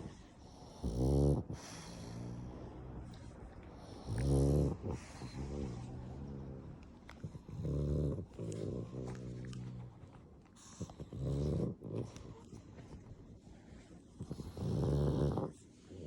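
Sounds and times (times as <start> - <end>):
dog snoring: 0.0 - 16.0.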